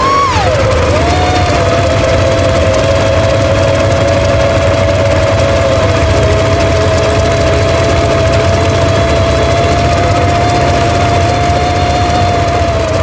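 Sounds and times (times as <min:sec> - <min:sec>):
helicopter piston engines running: 0:00.0 - 0:13.0.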